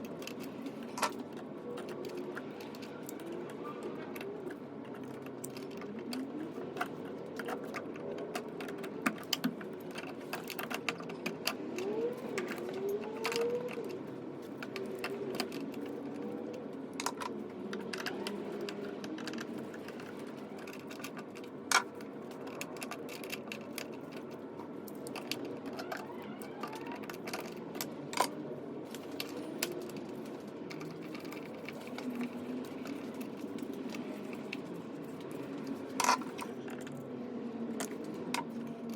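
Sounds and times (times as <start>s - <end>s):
hand tools clicking and rattling: 0.0s - 38.9s.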